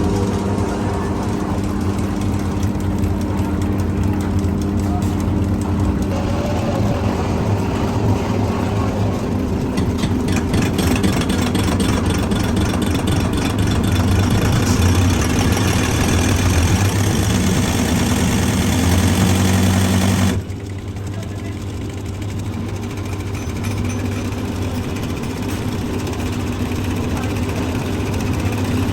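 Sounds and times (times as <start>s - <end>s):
engine running with low hum: 0.0s - 28.9s
rapid clicking or rattling: 0.1s - 8.1s, 9.4s - 28.9s.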